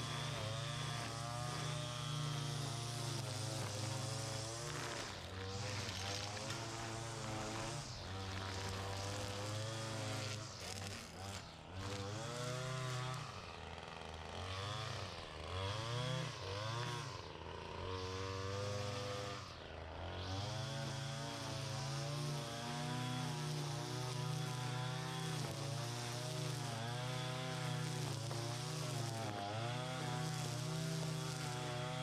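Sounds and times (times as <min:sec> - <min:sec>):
small gas engine running: 0:00.0 - 0:32.0.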